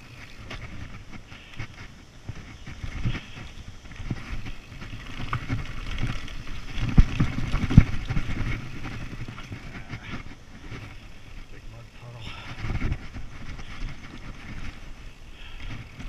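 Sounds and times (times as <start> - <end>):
bike rattling: 0.0 - 16.0
bike tyres rolling on dirt: 0.0 - 16.0.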